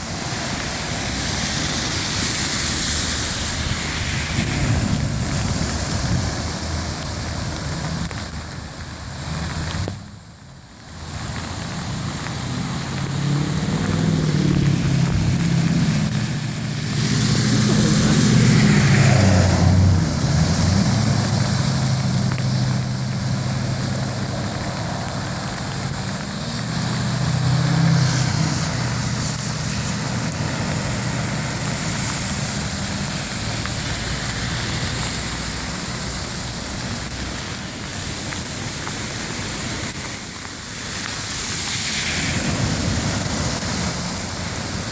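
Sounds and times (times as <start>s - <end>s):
vehicle engines running: 0.0s - 44.9s
water hissing and washing: 0.0s - 44.9s.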